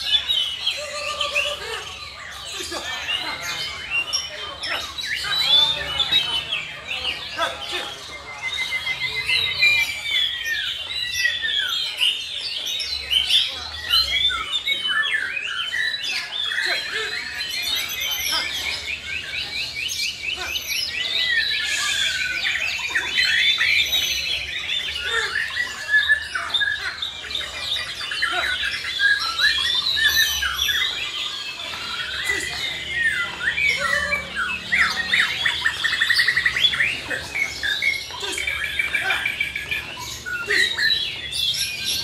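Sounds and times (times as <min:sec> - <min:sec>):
birds singing whistles and chatter: 0:00.0 - 0:42.0
fast bird trill: 0:00.0 - 0:42.0.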